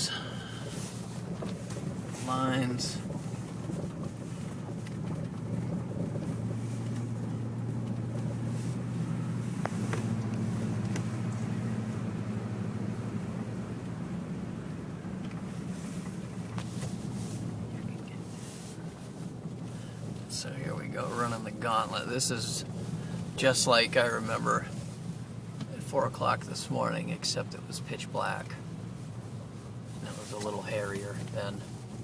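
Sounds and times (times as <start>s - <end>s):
vehicle engine droning: 0.0s - 32.0s.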